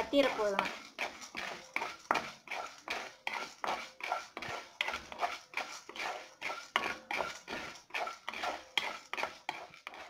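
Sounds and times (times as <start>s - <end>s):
spoon scraping a pan: 0.0s - 10.0s.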